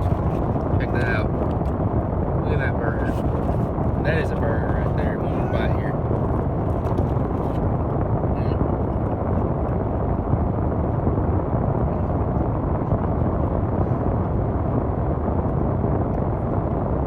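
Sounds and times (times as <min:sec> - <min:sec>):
car air conditioning blowing: 0:00.0 - 0:17.0.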